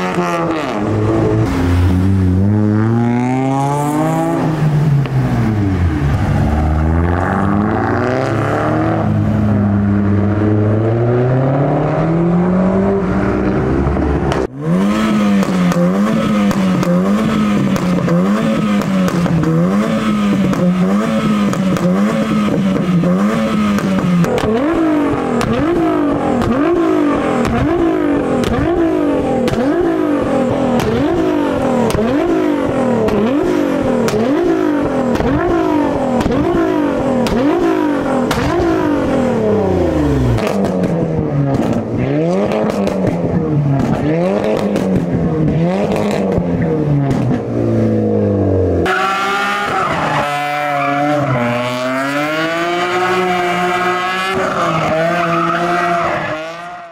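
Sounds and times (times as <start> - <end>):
car engine accelerating: 0.0 - 56.9
car engine revving: 0.0 - 56.9.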